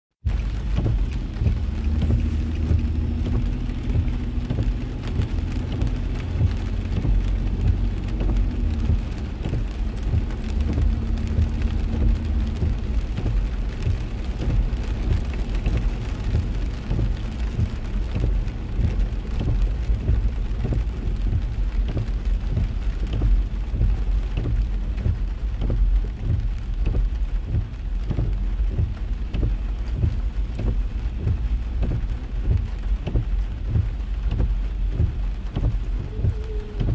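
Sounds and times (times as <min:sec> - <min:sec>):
heavy rain on car roof: 0:00.2 - 0:36.9
low rumble from car: 0:00.2 - 0:36.9.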